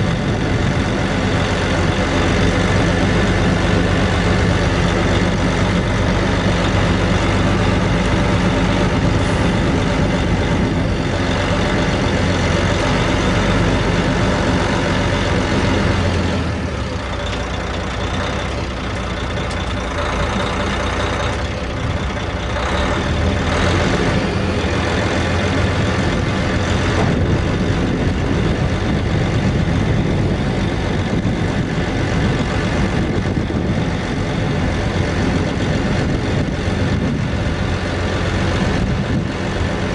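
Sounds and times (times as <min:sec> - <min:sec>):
dump truck engine running: 0:00.0 - 0:39.9.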